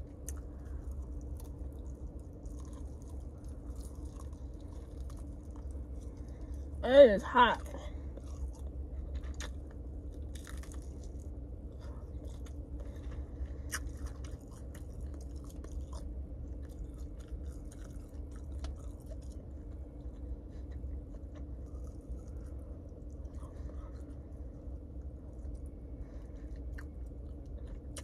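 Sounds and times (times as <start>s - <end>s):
person chewing with crisp crunches: 0.0s - 6.8s, 7.6s - 28.0s
steady low hum: 0.0s - 28.0s.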